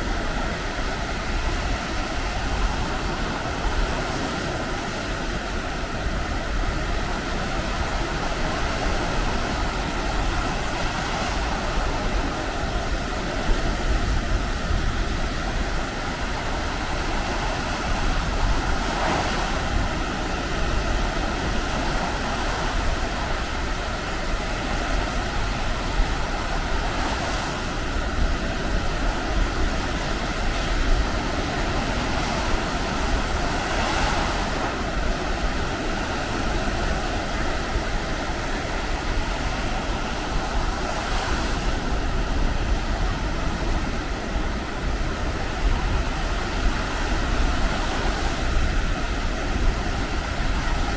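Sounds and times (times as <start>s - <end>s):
surf washing onto beach: 0.0s - 50.9s
wind on microphone: 0.0s - 50.9s.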